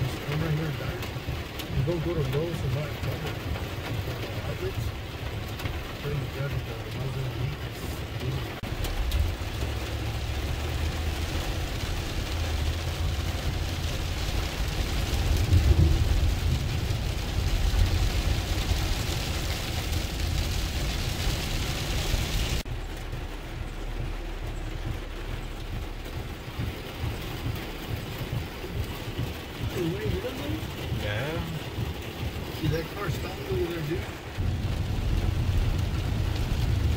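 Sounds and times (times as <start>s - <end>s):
rain hiss: 0.0s - 36.9s
vehicle road rumble: 0.0s - 36.9s.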